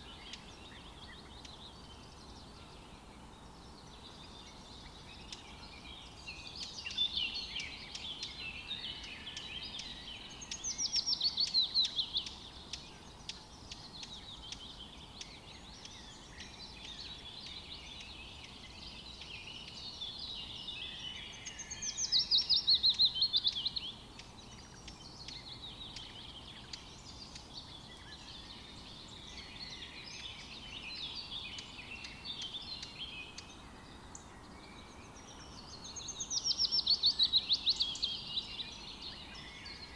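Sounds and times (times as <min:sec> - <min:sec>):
faint steady hiss: 0:00.0 - 0:39.9
songbirds chirping and warbling: 0:00.0 - 0:39.9.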